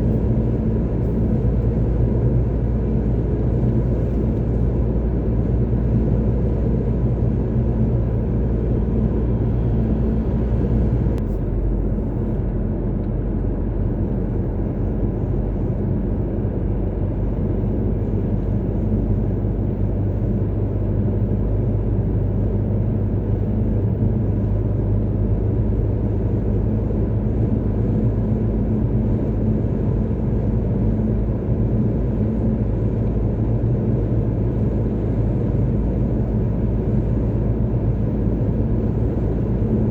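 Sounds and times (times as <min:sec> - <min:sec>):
car engine hum: 0:00.0 - 0:39.9.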